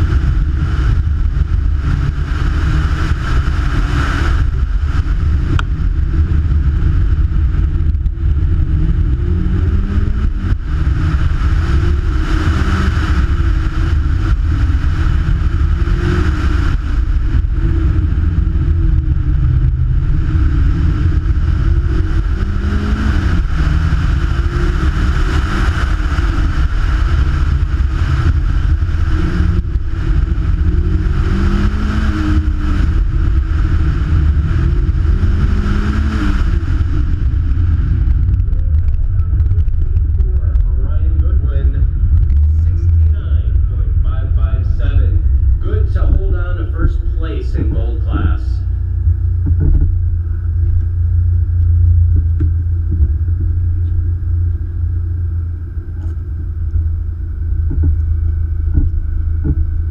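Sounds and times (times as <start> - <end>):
car engine revving: 0.0 - 59.9
wind rumble on microphone: 0.0 - 59.9.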